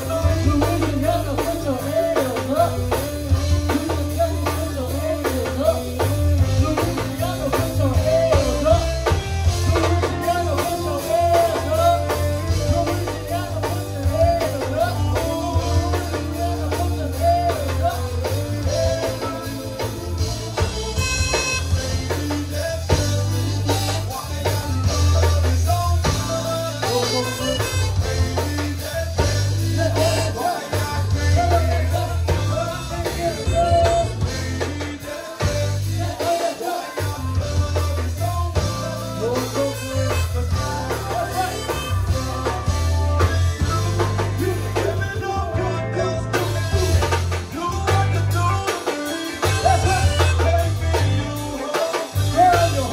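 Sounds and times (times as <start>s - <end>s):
zydeco band playing live: 0.0s - 52.9s.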